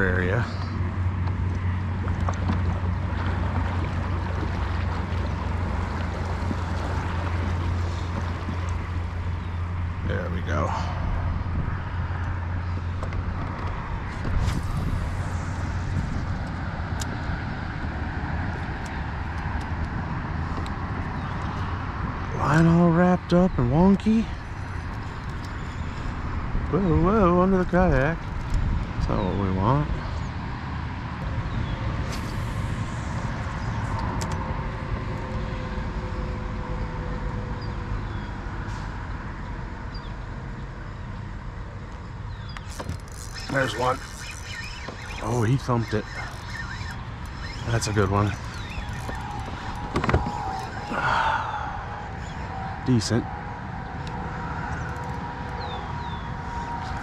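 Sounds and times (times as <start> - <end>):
road traffic rumble and hiss: 0.0 - 57.0.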